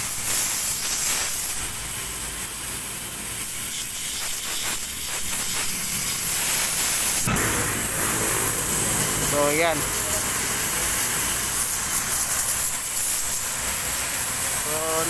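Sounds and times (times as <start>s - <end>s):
water jet hissing: 0.0s - 15.0s.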